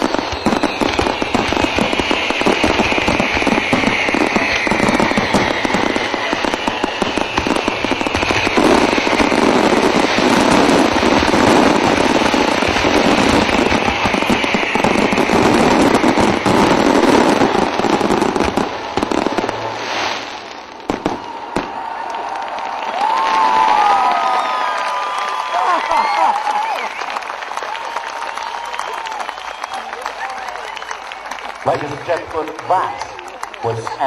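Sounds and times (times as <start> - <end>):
fireworks crackling and banging: 0.0 - 34.0
whistling firework shells: 0.0 - 34.0.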